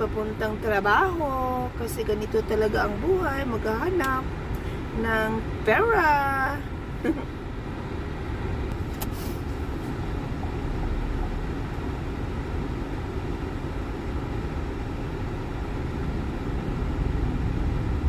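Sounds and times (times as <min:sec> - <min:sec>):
engine and tyre rumble: 0:00.0 - 0:18.0.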